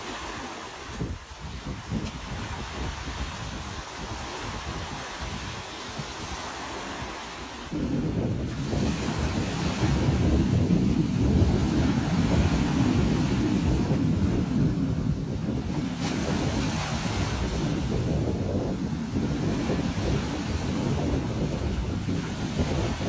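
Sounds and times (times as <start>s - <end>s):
ocean surf washing on beach: 0.0s - 23.0s
wind buffeting microphone: 0.0s - 23.0s.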